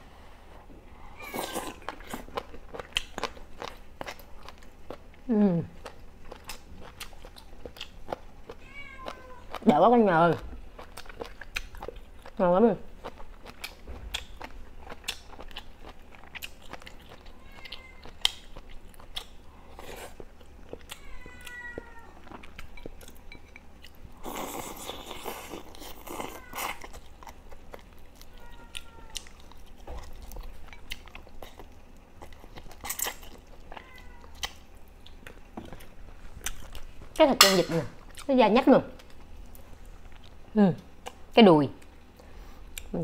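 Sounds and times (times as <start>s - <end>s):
chewing meat: 1.3s - 37.2s.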